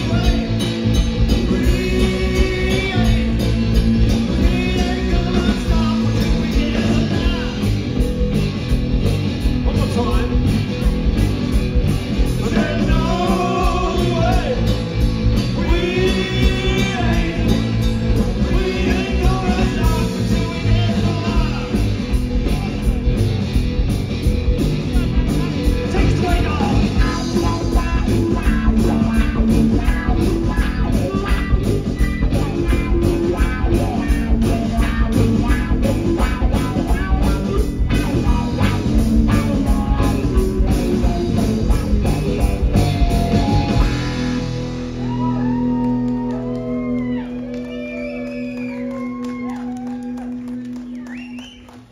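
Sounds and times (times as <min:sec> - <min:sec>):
drum kit: 0:00.0 - 0:51.9
electric guitars: 0:00.0 - 0:51.9.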